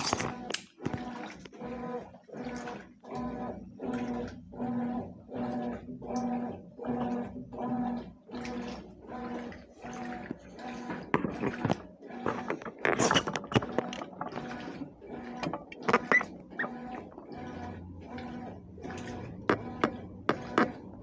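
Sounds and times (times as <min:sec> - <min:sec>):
washing machine motor hum: 0:00.0 - 0:21.0
water sloshing and clattering: 0:00.0 - 0:21.0.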